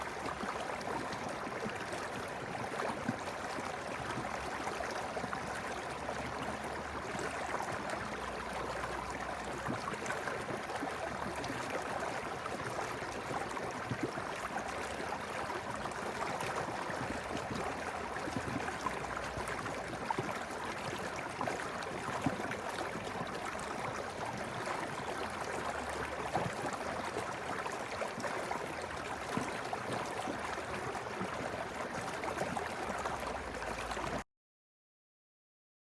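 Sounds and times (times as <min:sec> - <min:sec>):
stream water burbling: 0:00.0 - 0:34.2.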